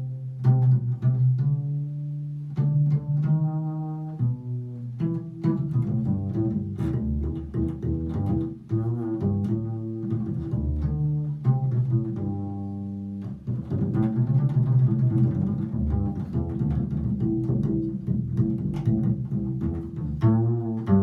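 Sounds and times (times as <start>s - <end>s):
double bass plucked: 0.0s - 21.0s.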